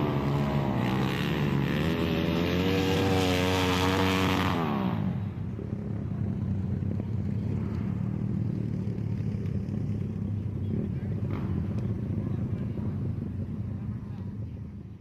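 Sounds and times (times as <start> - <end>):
low steady engine: 0.0 - 15.0
motorcycle engine passing at high revs: 0.0 - 15.0.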